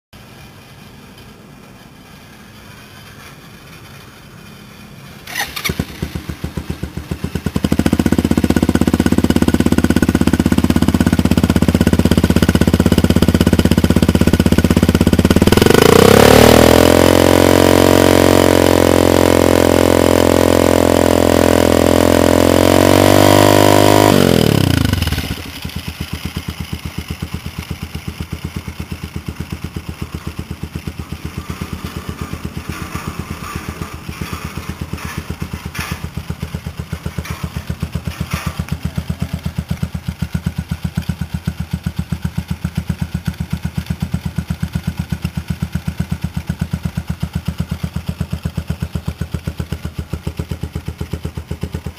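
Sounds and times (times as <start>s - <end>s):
motorcycle engine revving: 0.2s - 51.9s.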